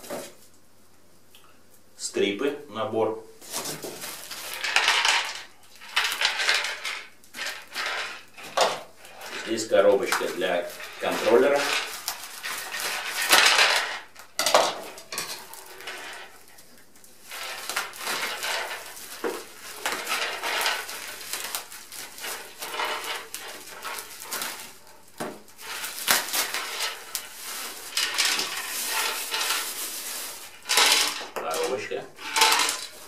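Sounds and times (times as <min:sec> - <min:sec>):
plastic packaging crinkling: 0:03.4 - 0:33.0.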